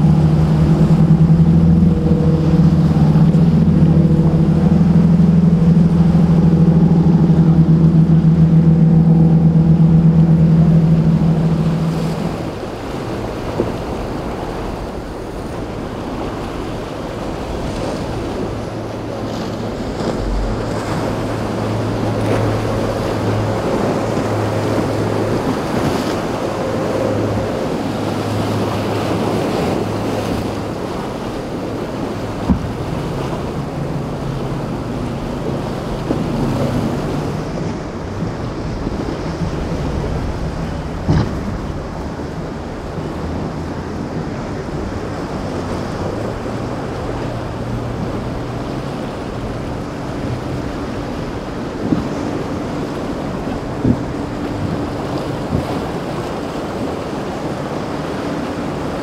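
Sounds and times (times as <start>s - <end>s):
boat engine droning: 0.0s - 59.0s
waves breaking: 0.0s - 59.0s
wind on microphone: 0.0s - 59.0s.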